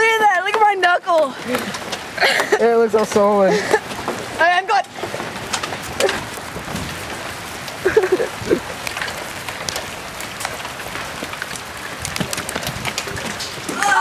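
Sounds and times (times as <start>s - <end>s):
hailstones striking surfaces: 0.0s - 14.0s.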